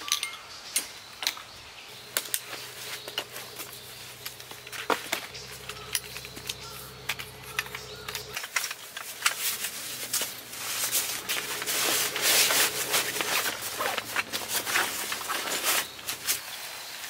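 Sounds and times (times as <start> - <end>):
low steady hum: 1.8 - 16.4
rustling and scraping: 2.0 - 17.0.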